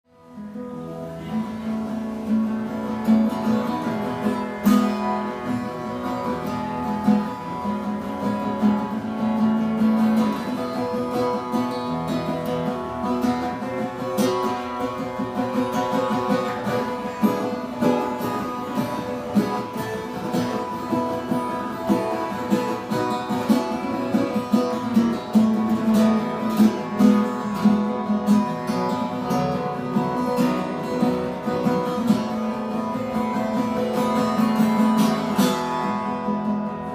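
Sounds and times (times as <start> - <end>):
acoustic guitar playing: 0.0 - 36.9.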